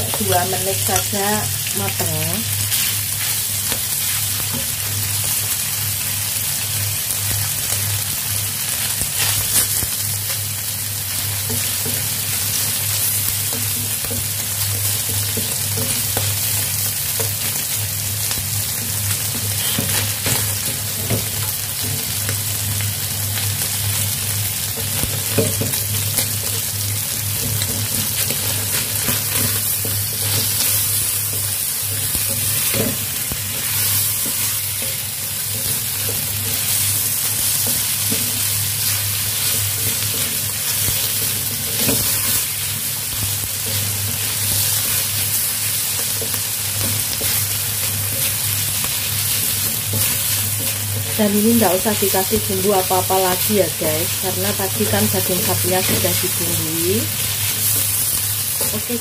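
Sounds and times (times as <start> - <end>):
meat and greens sizzling in oil: 0.0 - 59.0.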